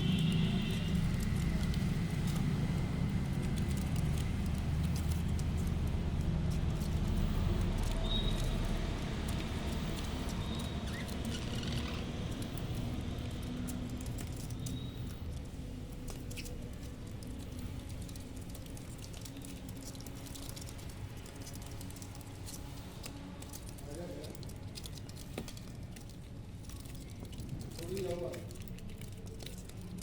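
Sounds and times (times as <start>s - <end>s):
birds pecking and rustling: 0.0s - 30.0s.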